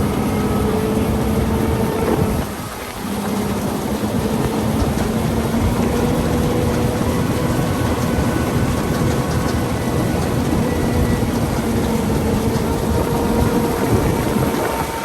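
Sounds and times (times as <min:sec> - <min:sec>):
harvesting machinery engine drone: 0:00.0 - 0:15.0.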